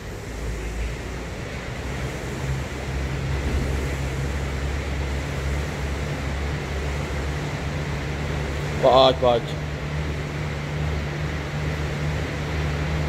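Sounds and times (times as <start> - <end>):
fan flywheel whirring: 0.0 - 13.0.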